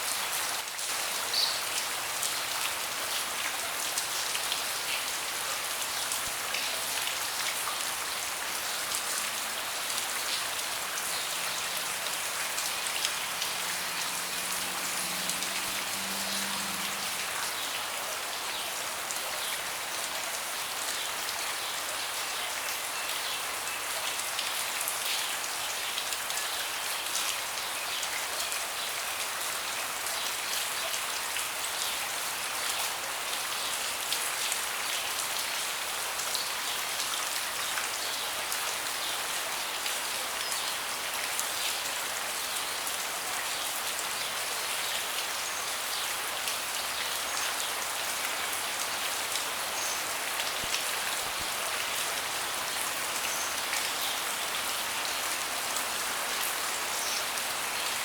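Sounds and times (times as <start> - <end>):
rain pattering on deck: 0.4 - 29.0, 29.8 - 58.0.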